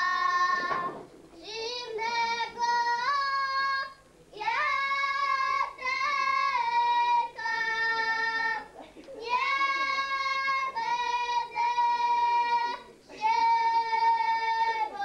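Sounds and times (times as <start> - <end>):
girl singing unaccompanied: 0.0 - 15.0.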